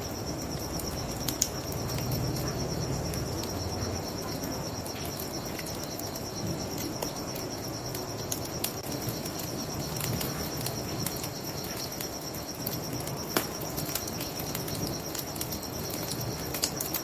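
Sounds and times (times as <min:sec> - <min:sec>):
bonfire crackling: 0:00.0 - 0:17.0
crickets chirping: 0:00.0 - 0:17.0.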